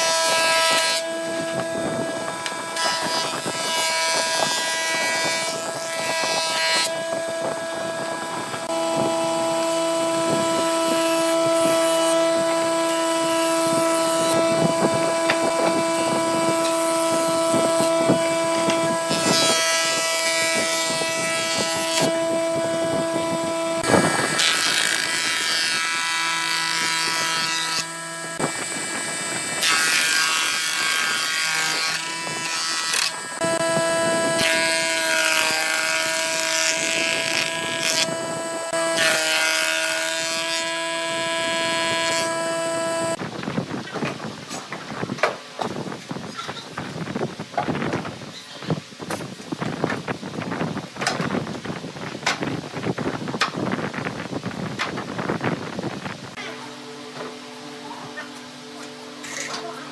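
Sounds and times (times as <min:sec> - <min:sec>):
boards cutting hiss: 0:00.0 - 0:43.2, 0:44.0 - 0:59.9
woodworking machine motor whine: 0:00.0 - 0:43.2, 0:53.3 - 0:59.9.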